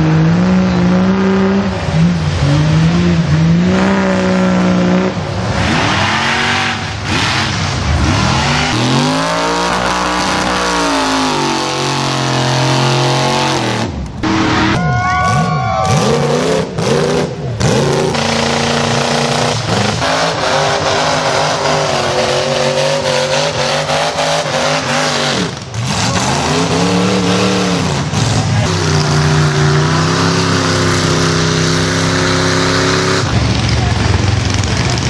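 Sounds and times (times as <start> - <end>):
vehicle engine revving: 0.0 - 35.0.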